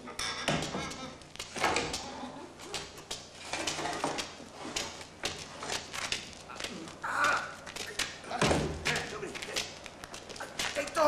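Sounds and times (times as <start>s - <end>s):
footsteps: 0.5s - 11.0s.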